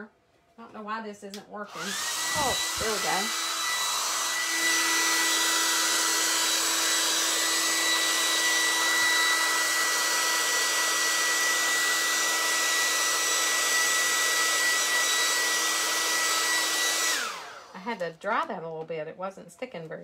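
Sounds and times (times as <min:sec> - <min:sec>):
hair dryer running: 0:01.6 - 0:18.1.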